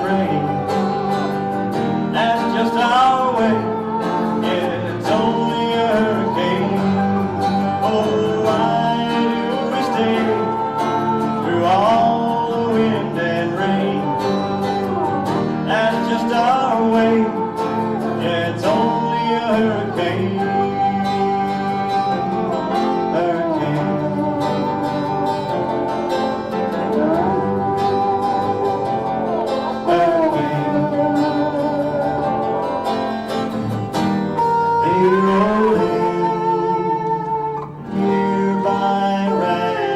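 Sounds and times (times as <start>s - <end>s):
acoustic guitar strumming: 0.0s - 39.9s
sliding melody line: 0.0s - 39.9s.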